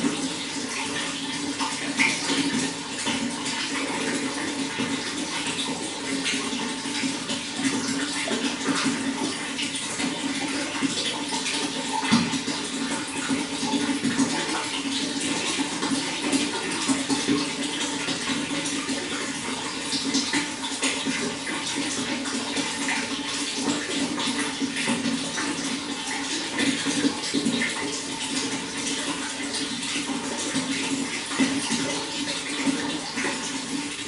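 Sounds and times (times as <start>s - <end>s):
running water splashing and gurgling: 0.0s - 34.0s.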